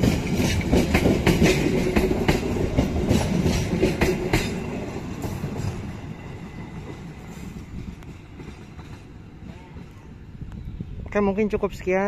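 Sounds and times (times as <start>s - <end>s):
train wheels clacking on rails: 0.0s - 10.2s.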